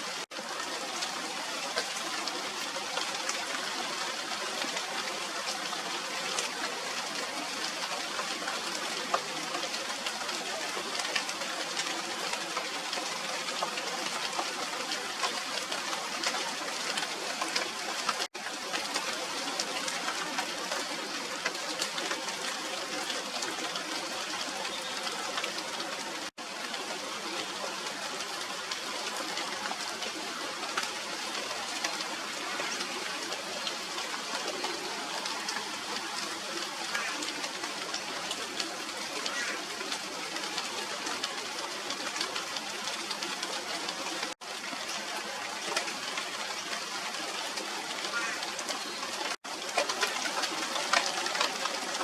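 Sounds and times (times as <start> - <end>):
rain pattering on leaves: 0.0 - 52.0.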